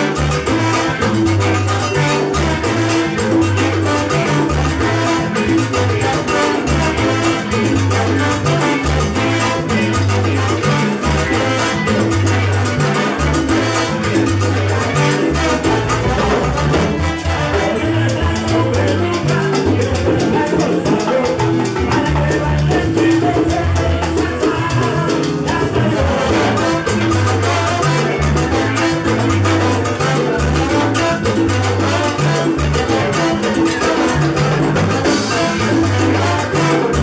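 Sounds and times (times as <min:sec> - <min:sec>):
salsa band playing: 0:00.0 - 0:37.0
man singing lead: 0:03.8 - 0:37.0.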